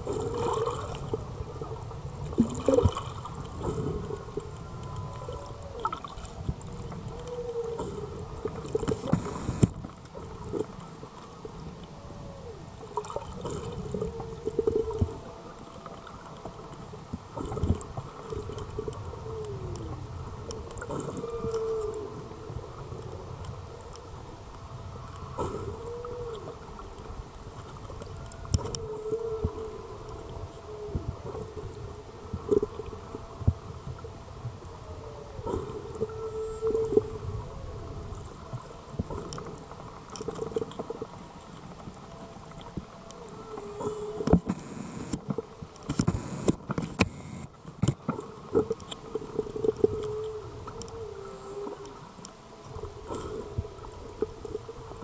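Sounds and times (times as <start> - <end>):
pilot whales calling underwater: 0.0 - 47.5, 48.4 - 55.0.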